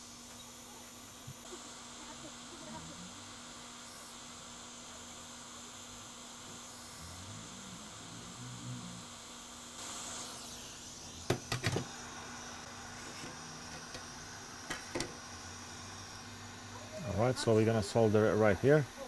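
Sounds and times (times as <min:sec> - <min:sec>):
hot-air station hissing: 0:00.0 - 0:19.0.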